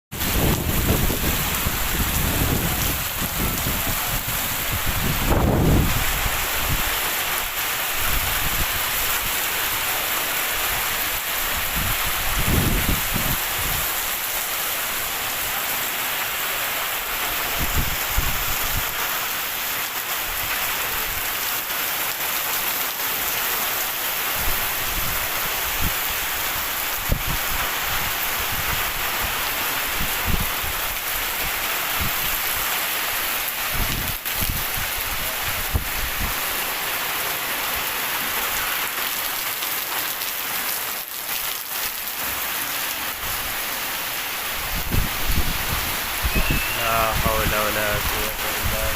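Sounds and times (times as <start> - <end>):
heavy rain pouring: 0.1 - 48.9.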